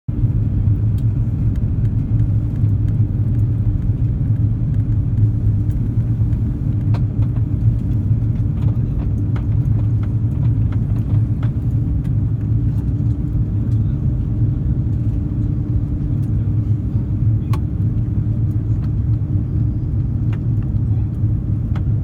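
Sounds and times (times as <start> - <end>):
airplane cabin engine drone: 0.1 - 22.0.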